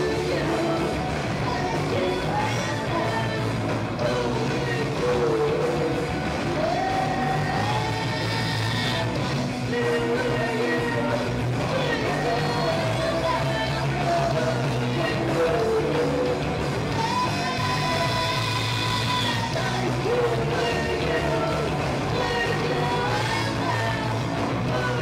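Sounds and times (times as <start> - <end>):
bass guitar: 0.0 - 25.0
drums: 0.0 - 25.0
electric guitar: 0.0 - 25.0
woman singing lead: 0.0 - 25.0.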